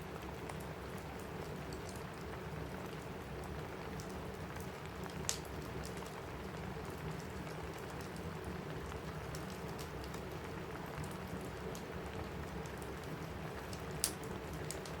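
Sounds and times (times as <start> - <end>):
rain pattering on a roof: 0.0 - 15.0
wood fire crackling: 0.0 - 15.0.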